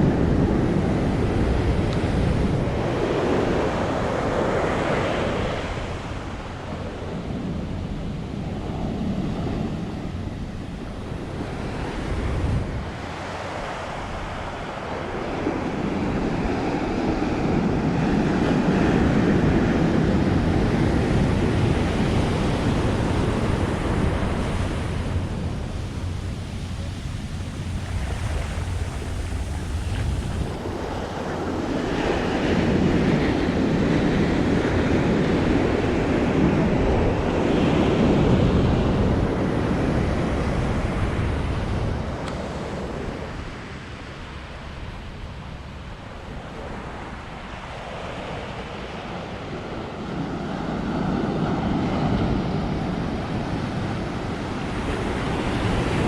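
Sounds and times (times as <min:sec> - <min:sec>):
ocean waves breaking: 0:00.0 - 0:56.0
wind on microphone: 0:00.0 - 0:56.0.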